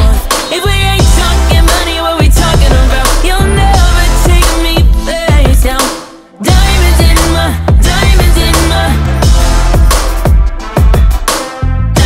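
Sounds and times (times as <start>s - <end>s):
electronic pop music: 0.0s - 12.0s.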